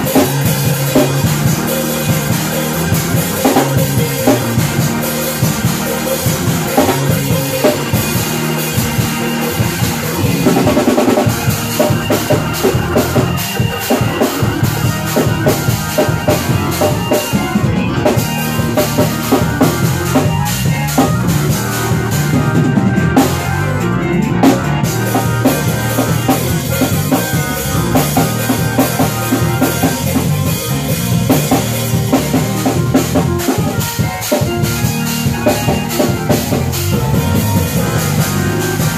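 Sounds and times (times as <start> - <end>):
bass: 0.0 - 38.9
drum kit playing: 0.0 - 38.9
organ chords: 0.0 - 38.9.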